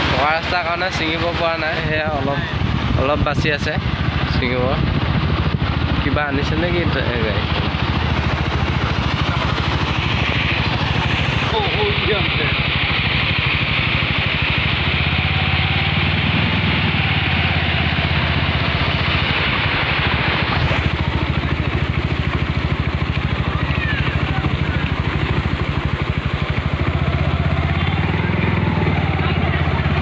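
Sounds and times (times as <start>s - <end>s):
floodwater rushing: 0.0s - 30.0s
scooter engine running: 0.0s - 30.0s.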